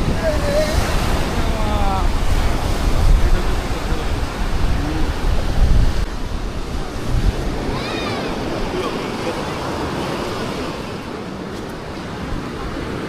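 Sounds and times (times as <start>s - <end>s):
waves breaking on beach: 0.0s - 13.0s
wind rumbling on microphone: 0.0s - 13.0s.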